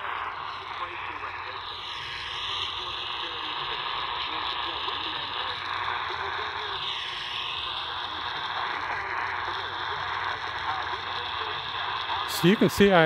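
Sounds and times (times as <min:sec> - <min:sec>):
faint voice on radio: 0:00.0 - 0:13.0
radio static hiss: 0:00.0 - 0:13.0.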